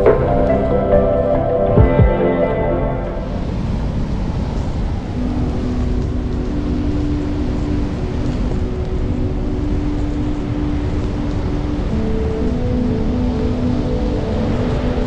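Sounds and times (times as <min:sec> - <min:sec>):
ambient music with low notes: 0:00.0 - 0:15.0.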